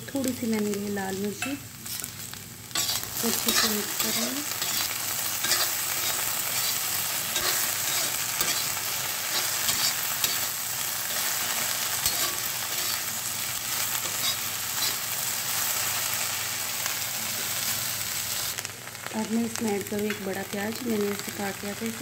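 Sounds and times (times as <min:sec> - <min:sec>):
okra sizzling in oil: 0:00.0 - 0:22.0.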